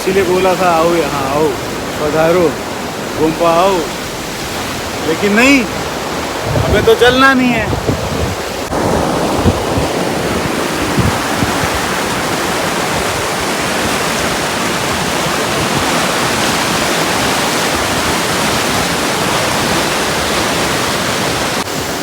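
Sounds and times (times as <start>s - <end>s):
low bumps: 0.0s - 18.6s
mountain torrent rushing: 0.0s - 22.0s.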